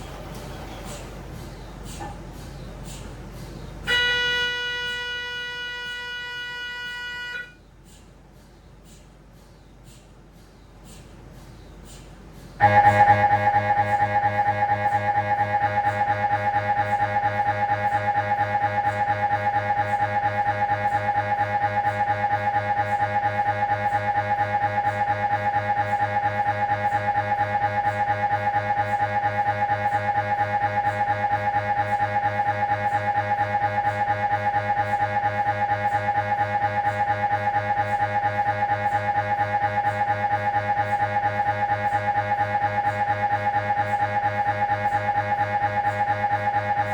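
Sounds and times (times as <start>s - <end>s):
mri scanner pulsing drone: 0.0s - 46.9s.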